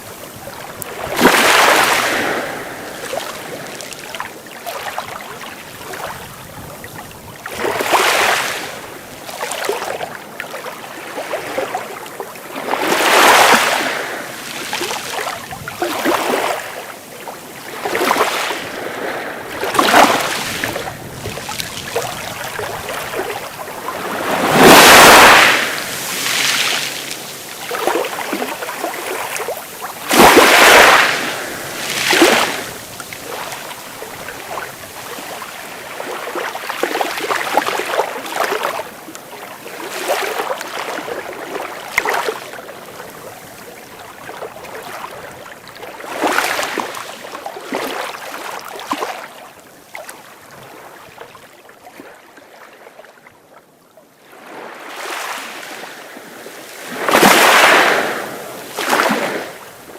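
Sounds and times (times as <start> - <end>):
sea waves breaking on shore: 0.0 - 53.2, 54.2 - 59.9.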